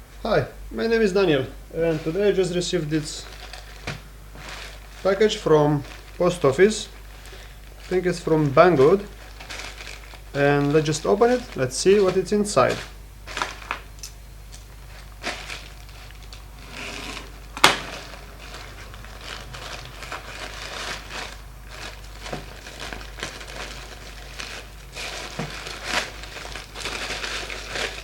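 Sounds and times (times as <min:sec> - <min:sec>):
packaging rustling and crinkling: 0:01.8 - 0:13.9, 0:14.5 - 0:28.0.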